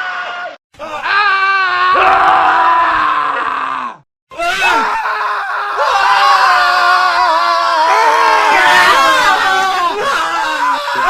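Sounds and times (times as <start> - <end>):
men screaming: 0.0 - 11.0.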